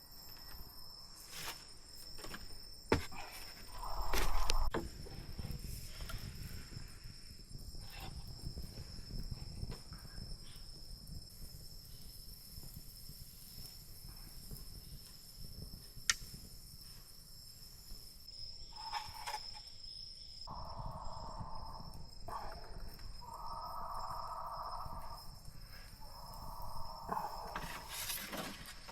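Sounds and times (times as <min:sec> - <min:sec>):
insects droning: 0:00.0 - 0:28.9.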